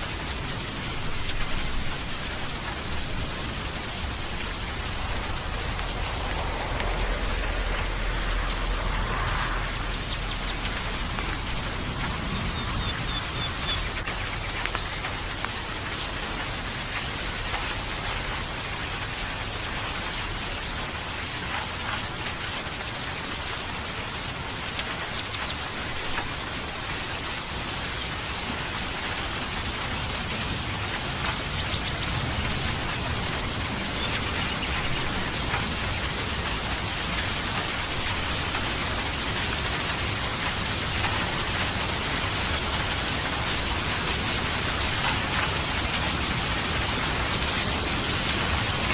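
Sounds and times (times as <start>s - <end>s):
raindrops ticking: 0.0s - 48.9s
steady rain hiss: 0.0s - 48.9s.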